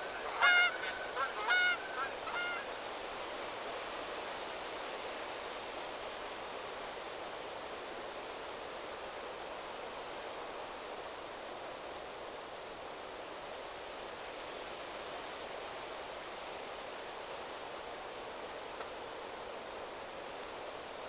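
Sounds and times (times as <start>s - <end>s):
wind rustling through trees: 0.0s - 21.0s.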